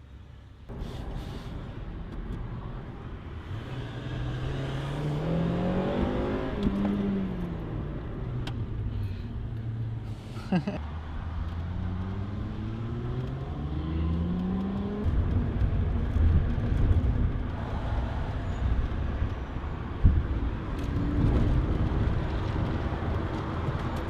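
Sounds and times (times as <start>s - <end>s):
car engine accelerating: 1.9s - 24.0s.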